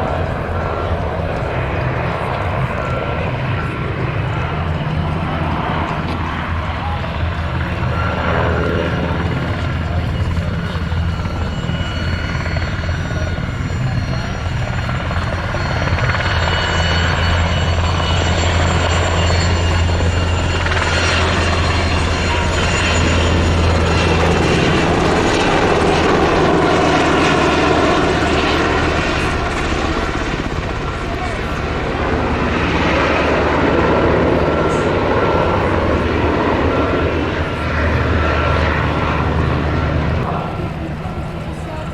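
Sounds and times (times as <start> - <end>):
helicopter rotor drone: 0.0 - 41.9
turbine whine: 0.0 - 41.9.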